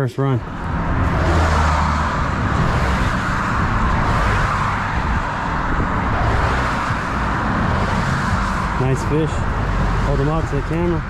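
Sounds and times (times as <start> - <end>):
cars passing on highway: 0.4 - 11.0.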